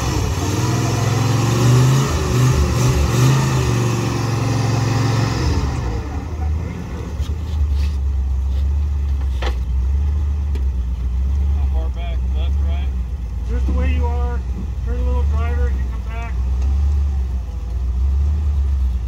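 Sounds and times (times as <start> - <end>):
engine revving and idling: 0.0 - 19.0.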